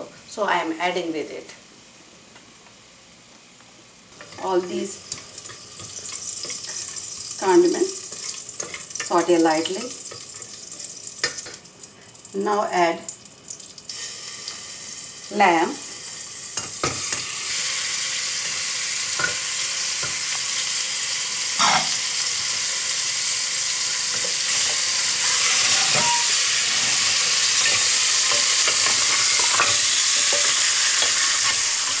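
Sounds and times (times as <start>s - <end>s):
meat sizzling in hot oil: 4.2s - 32.0s.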